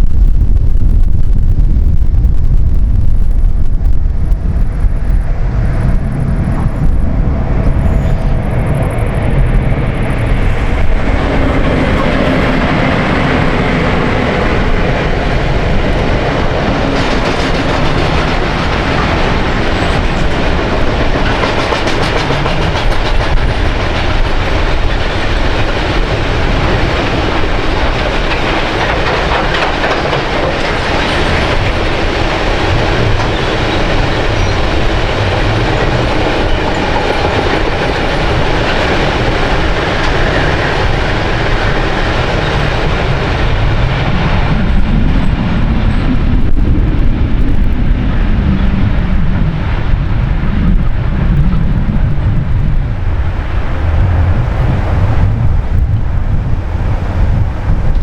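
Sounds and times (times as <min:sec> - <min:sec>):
train passing on rails: 0:03.0 - 0:58.0.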